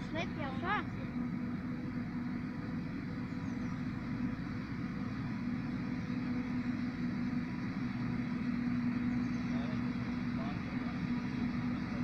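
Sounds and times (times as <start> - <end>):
constant low hum: 0.0 - 12.0
forage harvester drone: 0.0 - 12.0.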